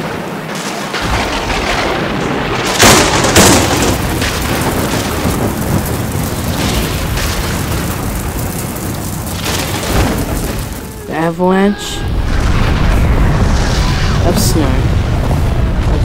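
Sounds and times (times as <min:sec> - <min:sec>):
heavy rain: 0:00.0 - 0:16.0
thunder cracks: 0:00.0 - 0:16.0.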